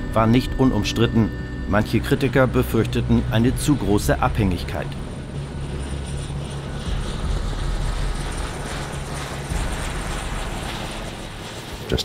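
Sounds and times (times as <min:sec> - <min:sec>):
helicopter rotor rumble: 0:00.0 - 0:12.0.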